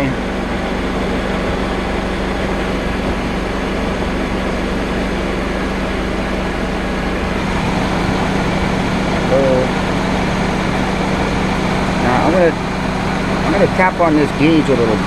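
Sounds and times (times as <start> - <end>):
car engine idling: 0.0 - 15.0
constant engine hum: 0.0 - 15.0.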